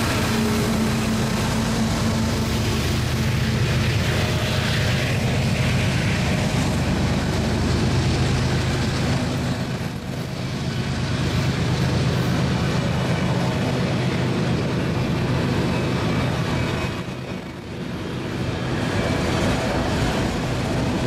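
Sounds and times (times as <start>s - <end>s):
freight cars rolling on rails: 0.0s - 21.0s.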